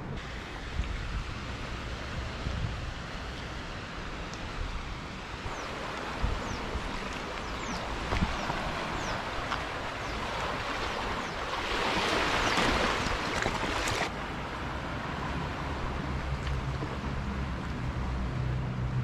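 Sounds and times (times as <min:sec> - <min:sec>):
wind rumbling on microphone: 0:00.0 - 0:19.0
small waves lapping against concrete: 0:00.2 - 0:18.2.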